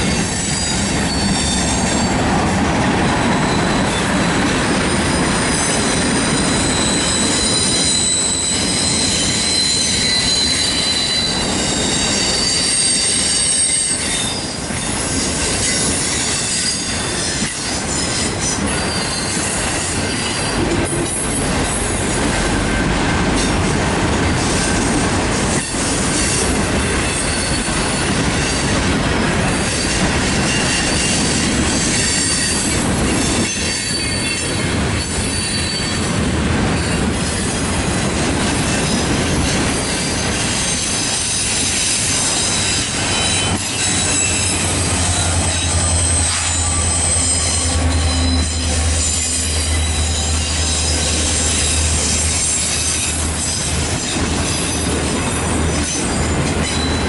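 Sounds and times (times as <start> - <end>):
high wheel squeal: 0.0 - 2.3, 3.0 - 22.8, 25.5 - 28.8, 29.7 - 36.1, 38.7 - 57.0
steel wheels rumbling on rail: 0.0 - 57.0.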